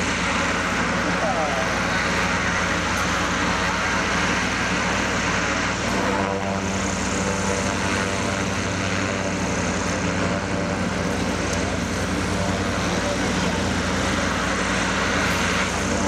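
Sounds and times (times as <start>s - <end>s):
airship propeller engines droning: 0.0s - 16.0s.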